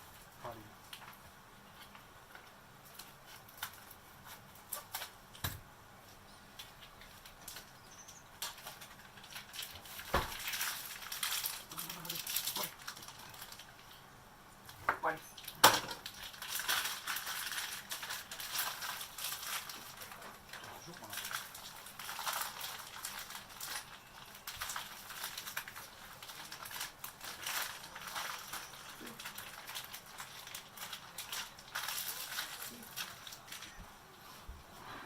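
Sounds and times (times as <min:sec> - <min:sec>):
food frying crackling: 0:00.0 - 0:34.2.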